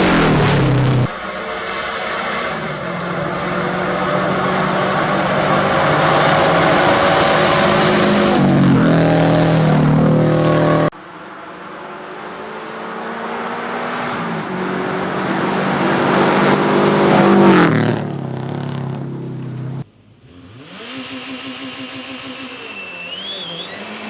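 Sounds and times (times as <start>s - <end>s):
rally car passing by: 0.0s - 24.0s
rally car revving hard: 0.0s - 24.0s.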